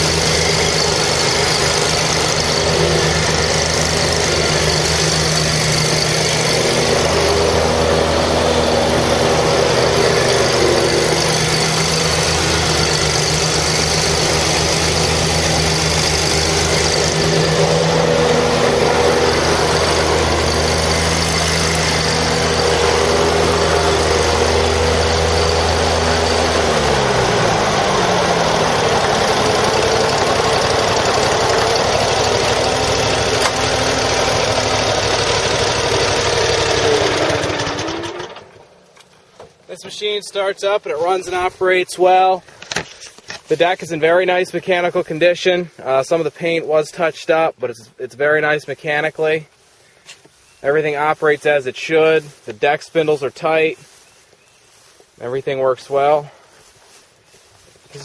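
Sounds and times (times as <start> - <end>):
mower engine running: 0.0 - 47.6, 48.2 - 58.0.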